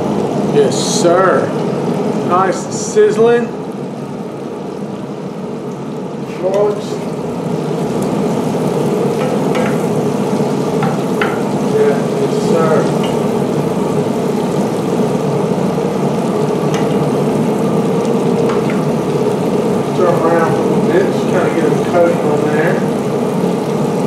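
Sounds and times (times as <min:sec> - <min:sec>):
steady hum: 0:00.0 - 0:24.0
potatoes sizzling in a skillet: 0:03.8 - 0:24.0.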